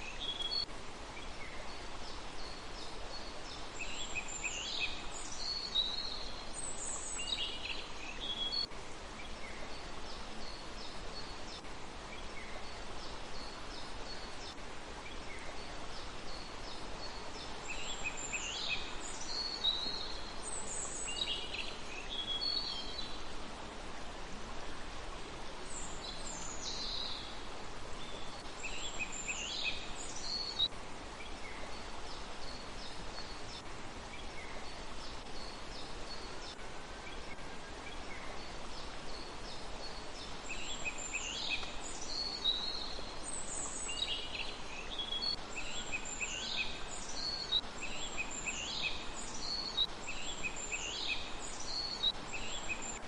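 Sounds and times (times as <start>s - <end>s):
songbird singing: 0.0s - 23.8s, 25.5s - 53.0s
background hiss: 0.0s - 53.0s.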